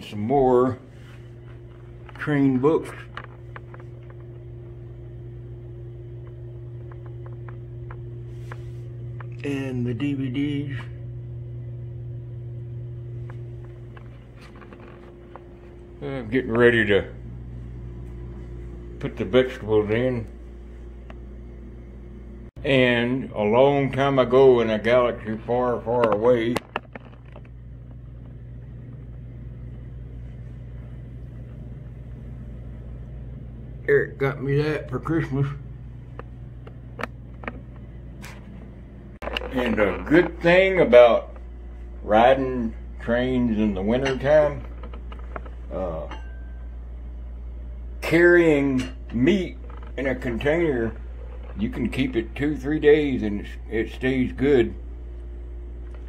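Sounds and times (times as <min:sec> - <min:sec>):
low motor hum: 0:00.0 - 0:56.0.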